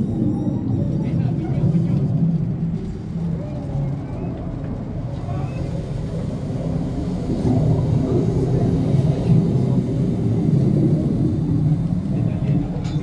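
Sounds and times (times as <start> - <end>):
low rumble of machinery: 0.0 - 13.0.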